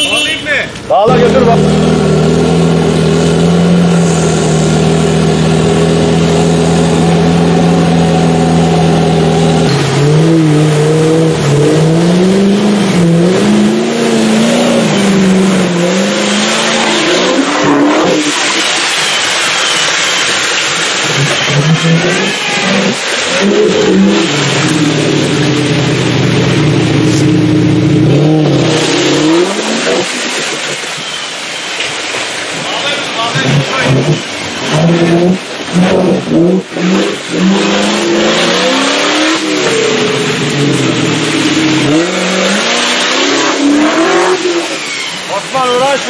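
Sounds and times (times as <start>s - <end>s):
tyres churning through mud: 0.0s - 46.0s
off-road engine revving: 0.6s - 46.0s.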